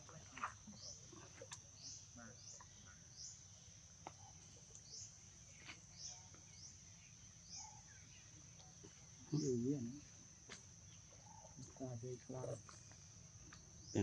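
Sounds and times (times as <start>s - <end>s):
high insect drone: 1.7s - 14.0s.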